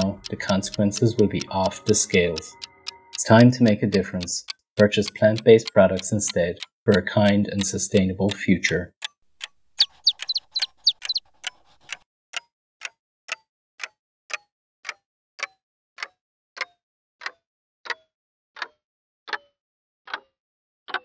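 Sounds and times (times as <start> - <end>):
clock ticking: 0.0 - 18.0.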